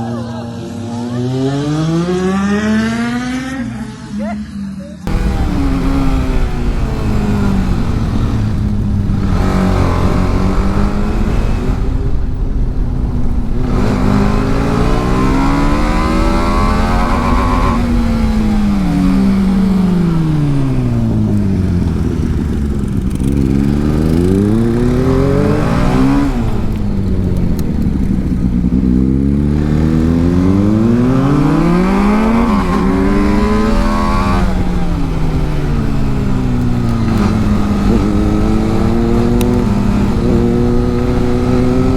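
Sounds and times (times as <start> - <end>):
motorcycle engine revving: 0.0 - 4.3, 5.0 - 41.9.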